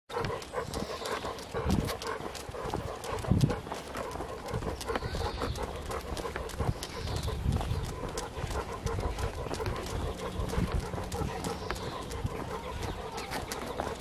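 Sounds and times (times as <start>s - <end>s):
footsteps and dog paws clicking: 0.1s - 14.0s.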